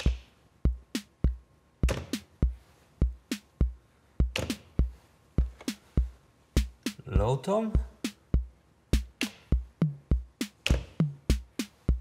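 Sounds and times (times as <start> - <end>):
drum machine bass drum: 0.0 - 12.0
drum machine snare hits: 0.0 - 12.0.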